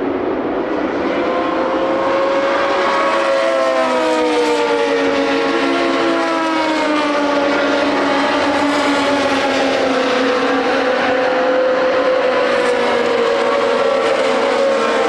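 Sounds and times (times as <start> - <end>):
racing car engines high revs: 0.0 - 15.0.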